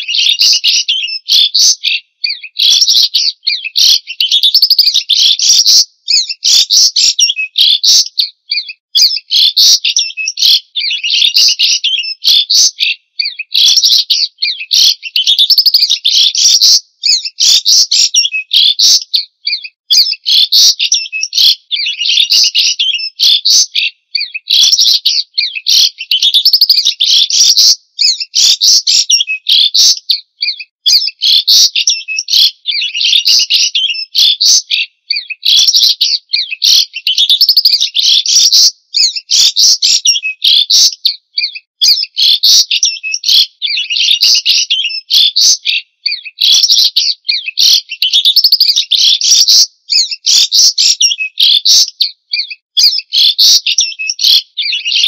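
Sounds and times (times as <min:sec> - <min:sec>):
bird singing whistled phrases: 0:00.0 - 0:55.0.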